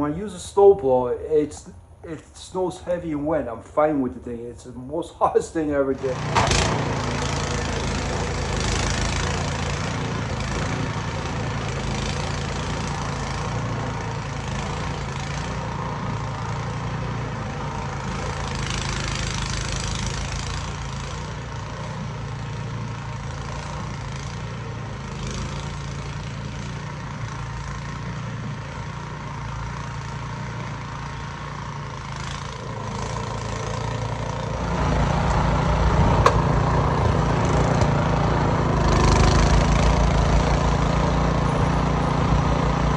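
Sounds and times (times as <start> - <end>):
snowblower engine running: 0.0 - 42.9.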